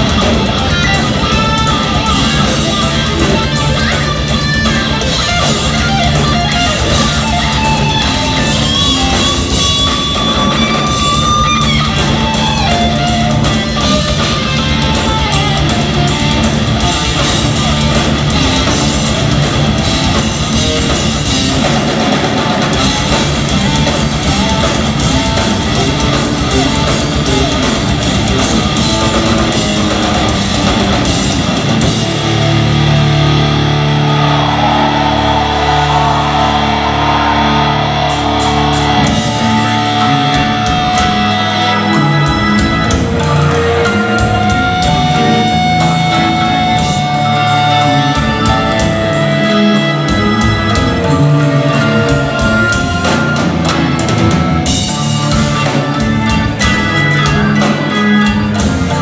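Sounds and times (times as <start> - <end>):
fast dense drumming: 0.0 - 59.0
metal band playing live: 0.0 - 59.0.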